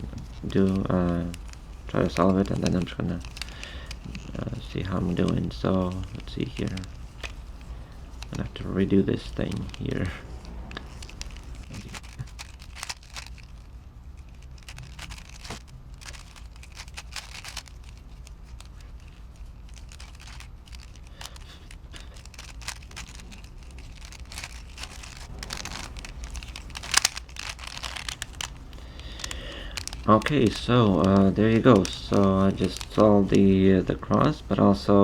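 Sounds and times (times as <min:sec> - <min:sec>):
puzzle cube clicking: 0:00.0 - 0:34.9.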